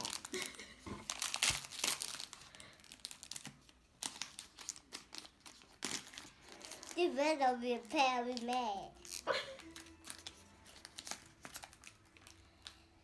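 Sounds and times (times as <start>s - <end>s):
plastic wrapping crinkling and tearing: 0.0s - 13.0s.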